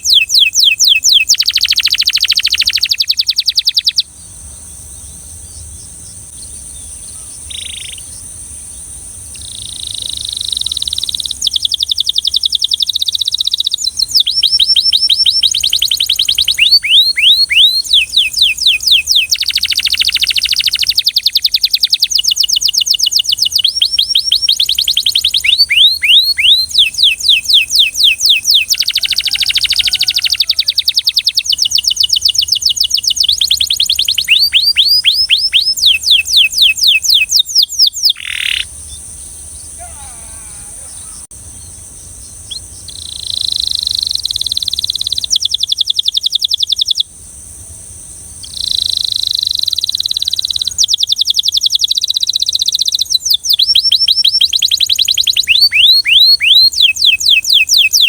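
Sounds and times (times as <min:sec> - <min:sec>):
canary singing trills: 0:00.0 - 0:47.1, 0:48.4 - 0:58.0.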